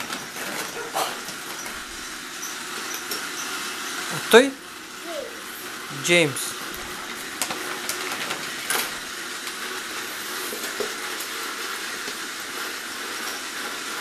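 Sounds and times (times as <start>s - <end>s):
toy train set on plastic track: 0.0s - 14.0s.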